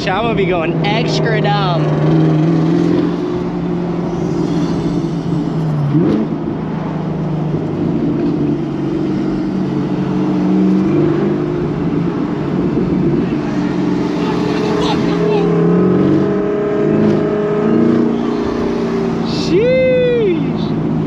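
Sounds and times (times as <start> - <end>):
car engine cruising: 0.0 - 21.0.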